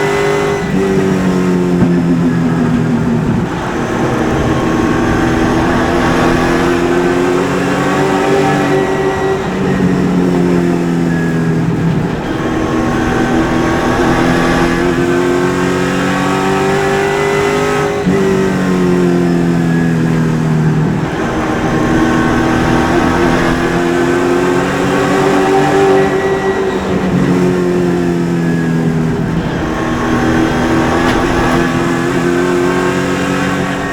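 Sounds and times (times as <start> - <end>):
race car engine revving: 0.0 - 33.9.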